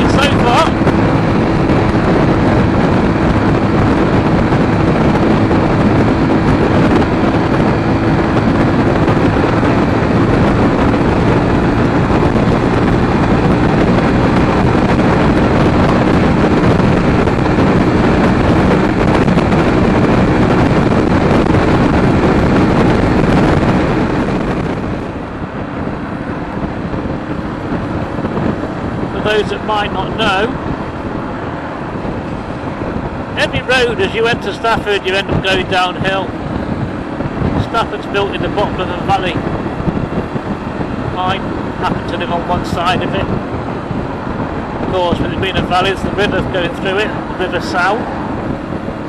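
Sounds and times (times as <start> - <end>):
motorcycle engine running: 0.0 - 49.0
wind buffeting microphone: 0.0 - 49.0.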